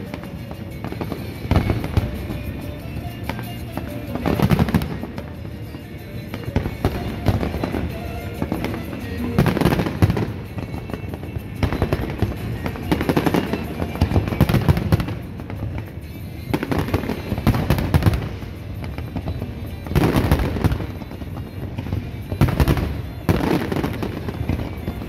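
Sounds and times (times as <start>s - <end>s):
fireworks bursting and crackling: 0.0s - 25.0s
fireworks popping: 0.0s - 25.0s.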